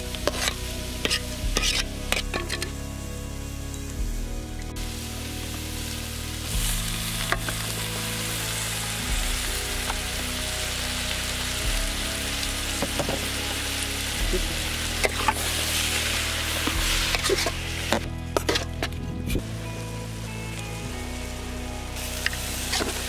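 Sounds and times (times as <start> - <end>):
onions sizzling in oil: 0.0 - 23.0
soft background music: 0.0 - 23.0.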